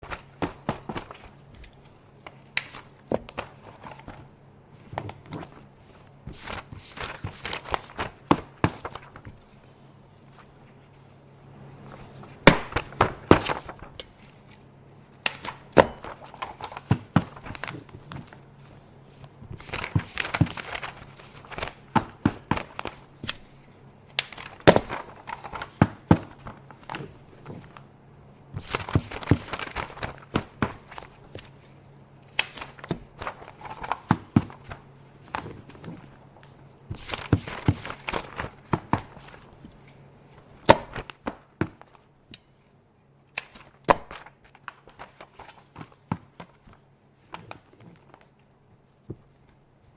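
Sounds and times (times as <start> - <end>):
paper rustling and crinkling: 0.0 - 42.7, 43.4 - 49.9.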